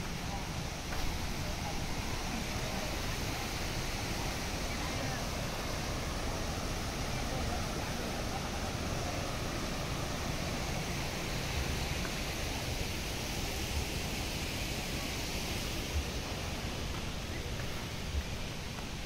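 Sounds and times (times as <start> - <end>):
waterfall rushing over rocks: 0.0 - 19.0.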